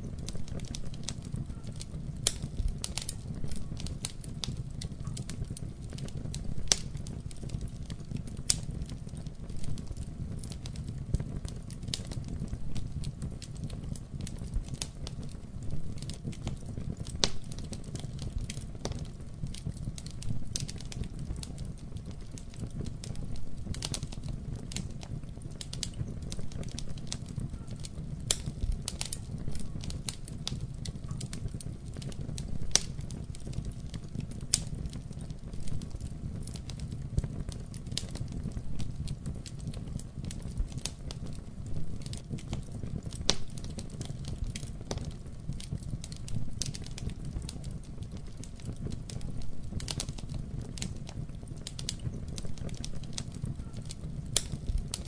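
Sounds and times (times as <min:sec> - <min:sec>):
fireplace flames rumbling: 0:00.0 - 0:55.0
wood fire crackles and pops: 0:00.0 - 0:55.0.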